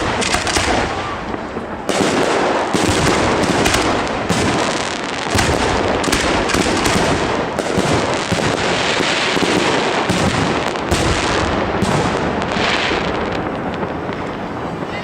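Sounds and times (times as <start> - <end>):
fireworks crackling bangs: 0.0 - 15.0.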